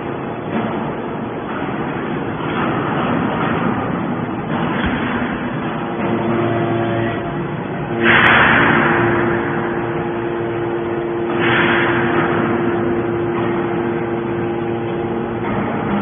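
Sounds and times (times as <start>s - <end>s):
hydraulic motor and pump hum: 0.0s - 16.0s.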